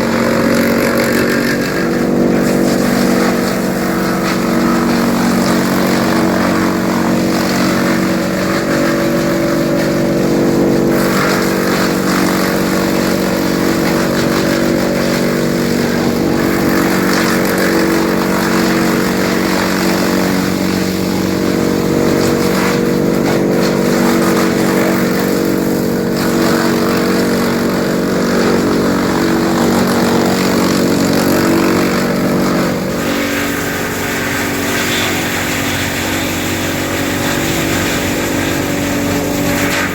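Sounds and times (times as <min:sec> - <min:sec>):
branches going through chipper: 0:00.0 - 0:39.9
woodchipper running: 0:00.0 - 0:39.9.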